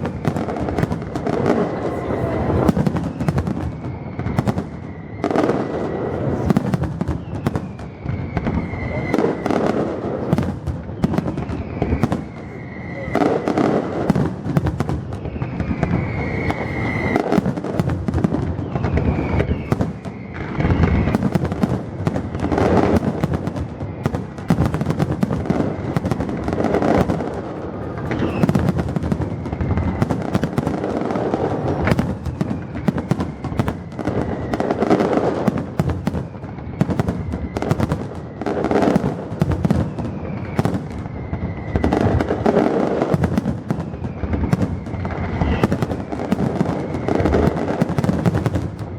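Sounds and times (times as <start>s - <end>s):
fireworks bangs and crackles: 0.0s - 48.9s
whistling firework shells: 0.0s - 48.9s.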